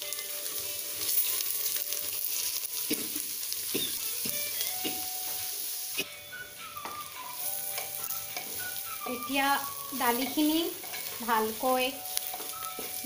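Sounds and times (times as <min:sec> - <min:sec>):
lentils sizzling in hot oil: 0:00.0 - 0:13.0.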